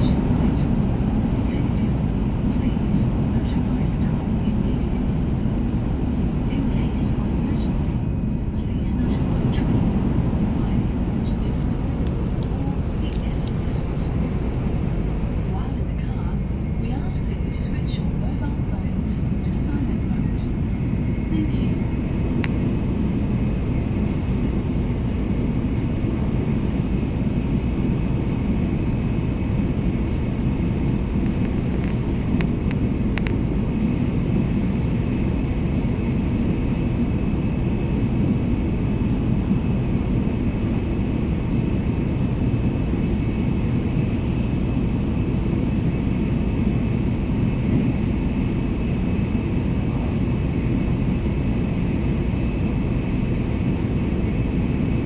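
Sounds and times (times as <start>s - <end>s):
train rumble from inside cabin: 0.0s - 55.0s.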